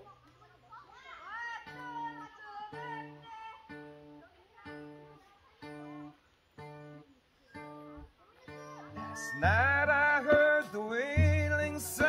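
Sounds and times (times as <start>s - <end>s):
acoustic guitar chords: 1.6s - 12.0s.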